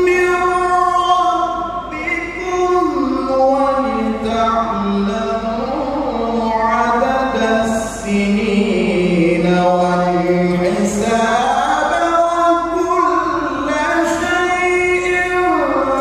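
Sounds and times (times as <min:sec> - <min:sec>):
man chanting into microphone: 0:00.0 - 0:16.0.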